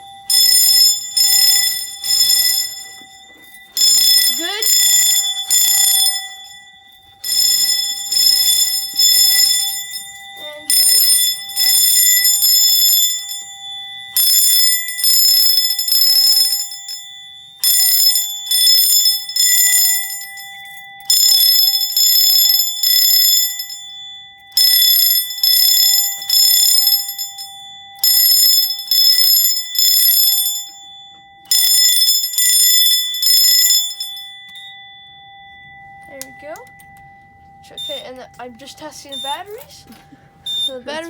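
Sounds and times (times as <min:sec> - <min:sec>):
fire alarm bells ringing: 0:00.0 - 0:41.0.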